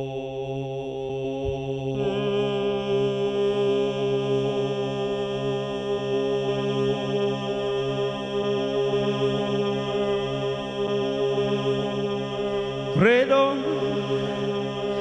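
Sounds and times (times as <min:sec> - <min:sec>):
looped male vocal drone: 0:02.0 - 0:15.0.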